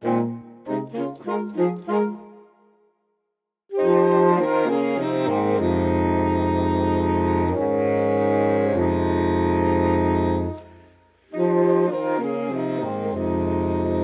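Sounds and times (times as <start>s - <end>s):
saxophone quartet playing: 0.0s - 2.6s, 3.7s - 14.0s.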